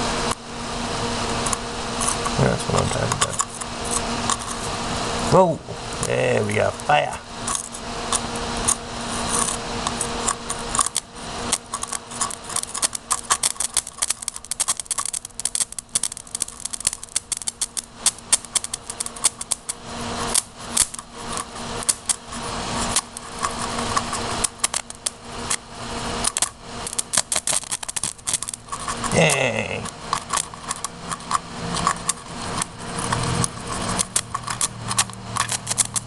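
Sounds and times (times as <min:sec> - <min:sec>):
electric arc crackling and popping: 0:00.0 - 0:36.0.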